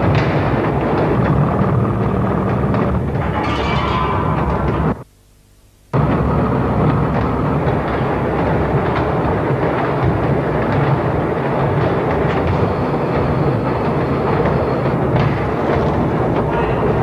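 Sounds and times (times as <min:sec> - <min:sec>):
mechanical machines rumbling and clattering: 0:00.0 - 0:05.0, 0:05.9 - 0:17.0.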